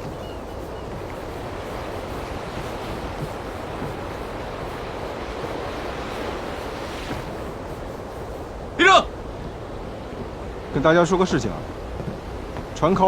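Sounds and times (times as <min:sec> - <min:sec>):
sea waves rushing: 0:00.0 - 0:13.0
wind: 0:00.0 - 0:13.0.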